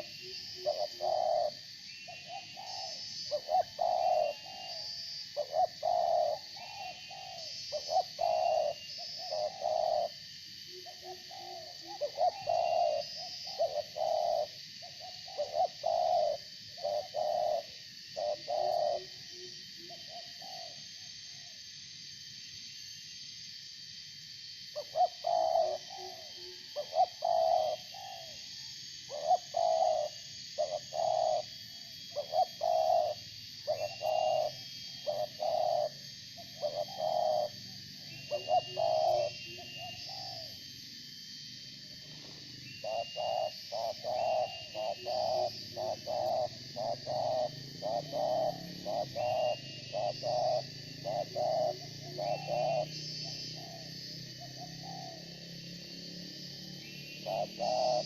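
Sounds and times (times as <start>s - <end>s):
doves cooing: 0.0s - 4.8s, 5.4s - 20.8s, 24.8s - 28.4s, 29.1s - 40.6s, 42.0s - 58.0s
steady high-pitched buzz: 0.0s - 58.0s.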